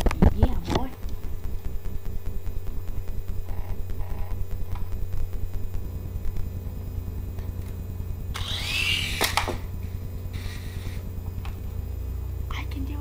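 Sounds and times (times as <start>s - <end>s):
rc helicopter rotor buzzing: 0.0s - 13.0s.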